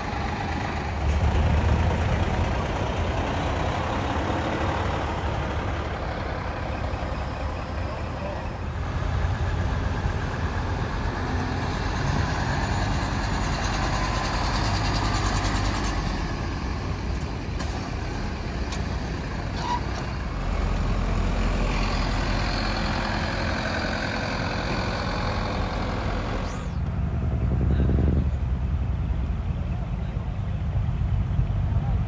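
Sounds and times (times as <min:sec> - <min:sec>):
diesel truck engines driving past: 0:00.0 - 0:32.0.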